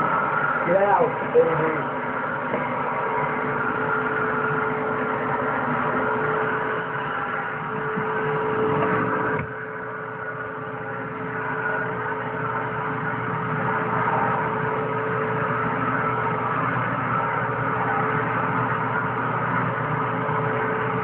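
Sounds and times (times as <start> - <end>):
vacuum cleaner whine: 0.0 - 21.0.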